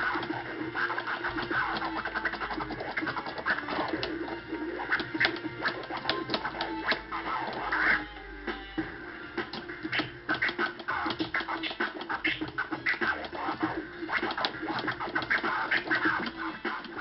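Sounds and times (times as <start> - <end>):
turntable scratching: 0.0 - 17.0.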